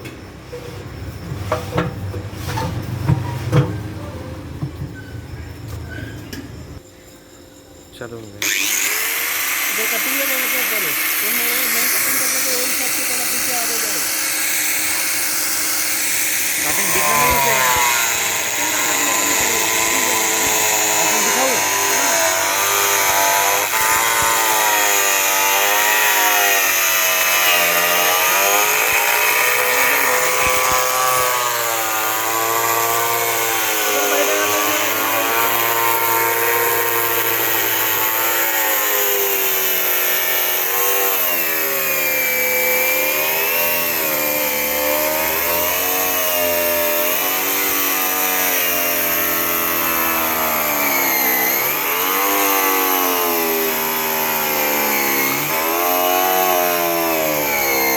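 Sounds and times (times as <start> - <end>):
power tool motor cutting metal: 8.4 - 57.9.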